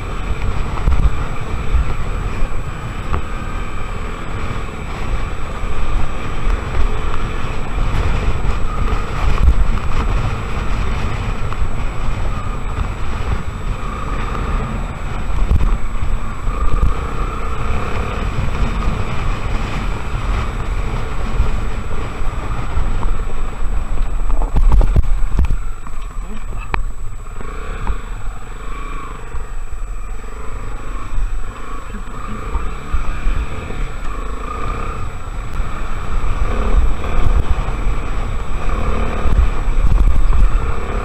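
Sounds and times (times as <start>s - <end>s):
motorcycle engine running: 0.0s - 41.0s
wind buffeting microphone: 0.0s - 41.0s.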